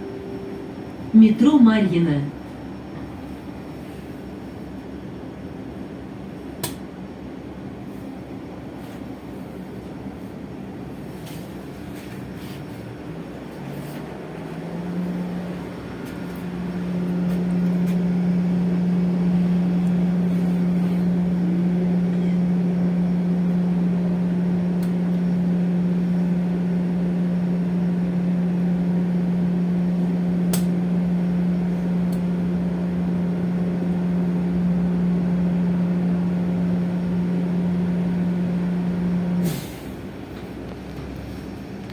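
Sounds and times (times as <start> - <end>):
bus machinery humming: 0.0 - 41.9.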